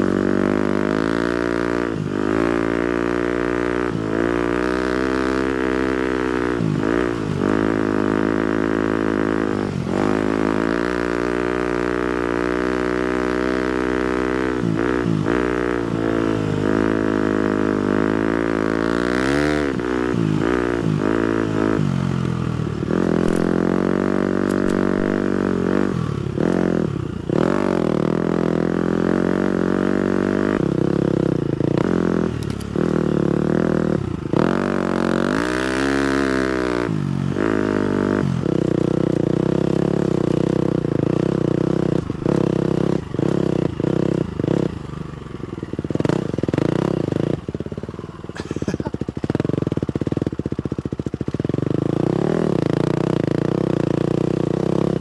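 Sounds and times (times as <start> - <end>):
motocross bike engine revving: 0.0 - 50.3, 51.2 - 55.0.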